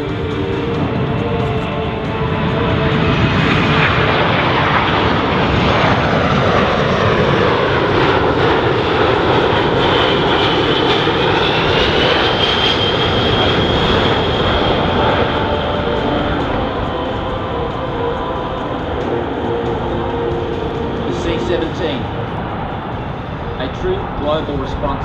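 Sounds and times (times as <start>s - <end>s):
high jet whine: 0.0s - 25.0s
jet engines roaring: 0.0s - 25.0s.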